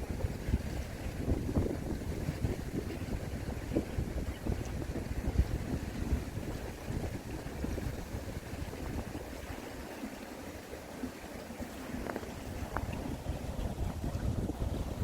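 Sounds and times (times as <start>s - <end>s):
stream water running under ice: 0.0s - 15.0s
wind rumbling on microphone: 0.0s - 15.0s.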